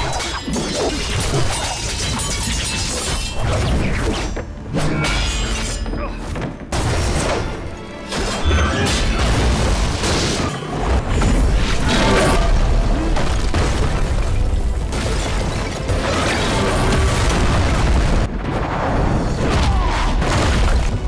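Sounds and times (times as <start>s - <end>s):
dramatic music: 0.0s - 21.0s.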